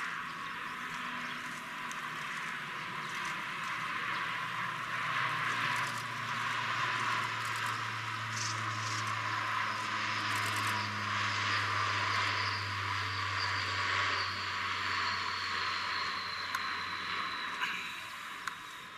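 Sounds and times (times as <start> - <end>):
low hum: 0.0 - 18.9
turboprop engines droning: 0.0 - 18.9.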